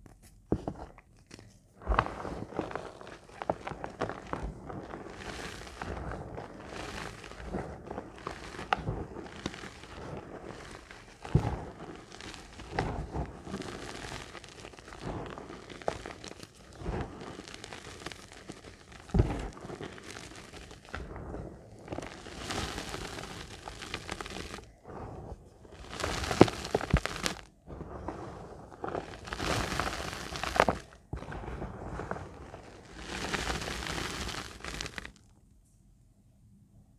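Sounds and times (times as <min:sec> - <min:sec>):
hands crunching dry chalk: 0:00.0 - 0:35.3.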